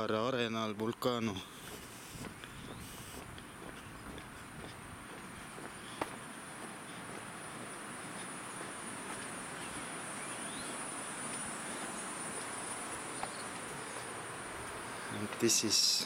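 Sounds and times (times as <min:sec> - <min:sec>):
background hiss: 0:00.0 - 0:16.0
insects buzzing: 0:00.0 - 0:16.0.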